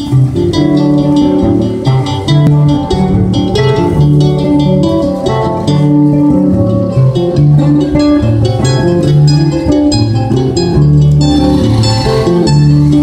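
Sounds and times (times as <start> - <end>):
acoustic guitar strumming: 0.0 - 13.0
mandolin playing: 0.0 - 13.0.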